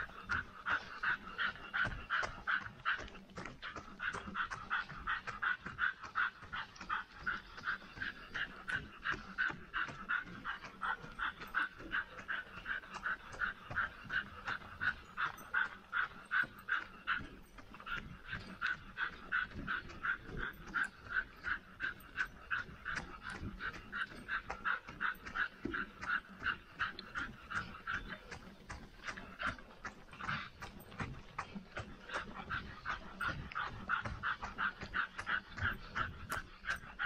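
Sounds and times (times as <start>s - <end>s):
dog panting rapidly: 0.0s - 37.0s.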